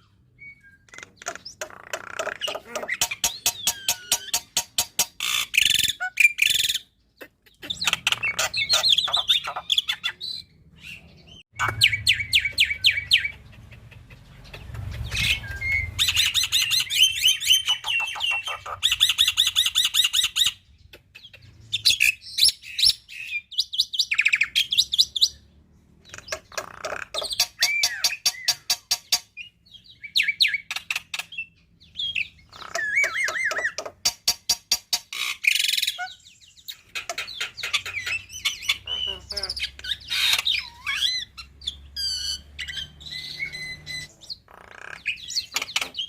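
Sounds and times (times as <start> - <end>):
starling singing chattering notes: 0.4 - 25.4, 26.0 - 46.0.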